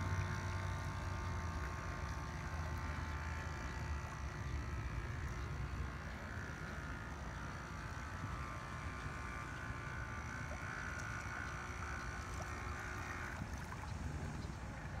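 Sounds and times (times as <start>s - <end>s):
low steady rumble: 0.0s - 15.0s
small electric motor whining: 0.0s - 15.0s.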